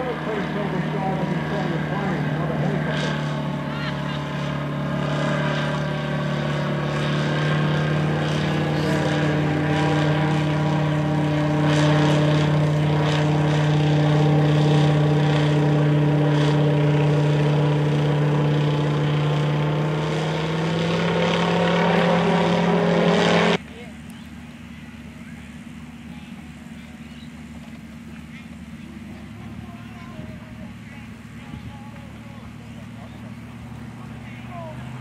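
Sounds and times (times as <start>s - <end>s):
light plane engine droning overhead: 0.0s - 35.0s.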